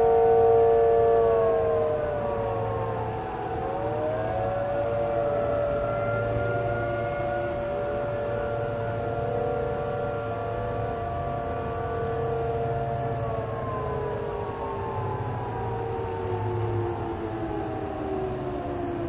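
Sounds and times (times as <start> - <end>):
outdoor warning sirens: 0.0 - 19.0.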